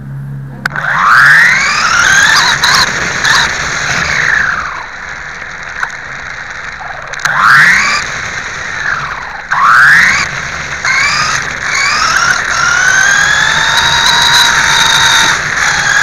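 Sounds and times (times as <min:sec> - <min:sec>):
rc car motors whining: 0:00.6 - 0:16.0.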